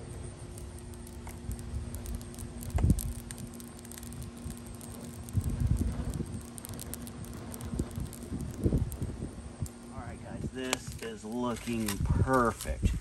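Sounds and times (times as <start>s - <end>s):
fire crackling and popping: 0.0s - 13.0s
wind rumble on microphone: 0.0s - 13.0s.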